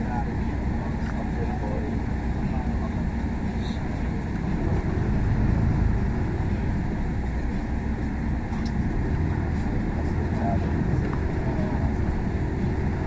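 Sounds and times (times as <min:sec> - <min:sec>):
diesel engine rumbling: 0:00.0 - 0:13.0
road noise: 0:00.0 - 0:13.0.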